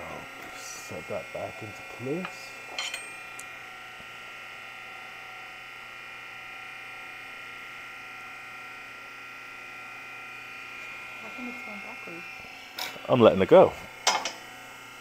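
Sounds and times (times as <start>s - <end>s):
high-pitched motor whine: 0.0s - 15.0s.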